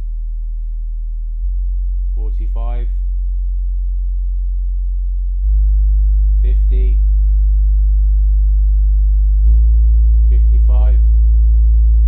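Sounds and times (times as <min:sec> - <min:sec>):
subwoofer bass test tone: 0:00.0 - 0:12.0.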